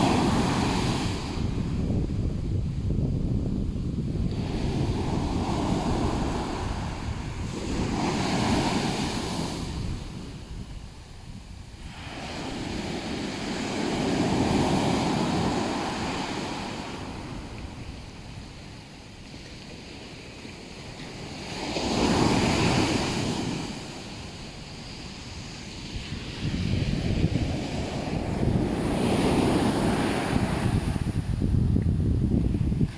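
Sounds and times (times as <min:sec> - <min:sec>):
ocean waves breaking on shore: 0:00.0 - 0:02.8, 0:04.0 - 0:32.9.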